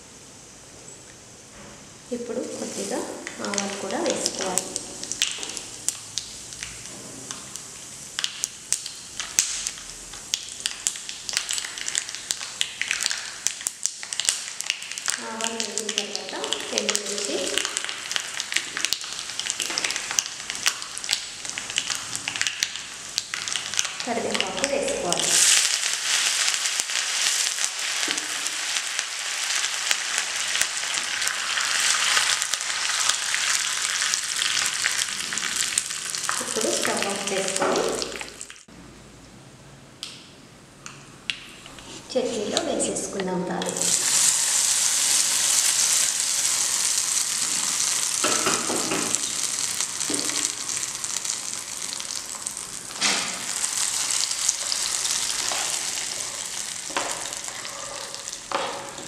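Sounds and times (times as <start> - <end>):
oil sizzling: 2.0 - 38.7, 41.8 - 59.0.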